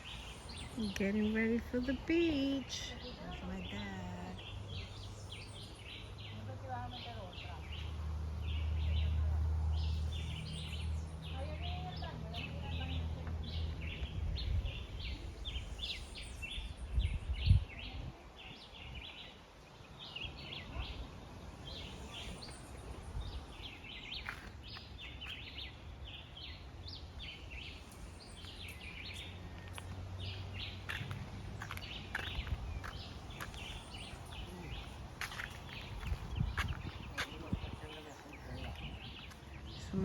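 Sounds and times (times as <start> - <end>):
birds chirping: 0.0 - 40.0
low rumble of wind: 0.0 - 40.0.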